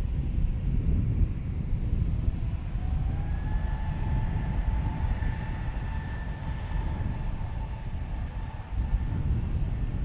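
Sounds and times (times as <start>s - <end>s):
low fluttering rumble: 0.0s - 10.0s.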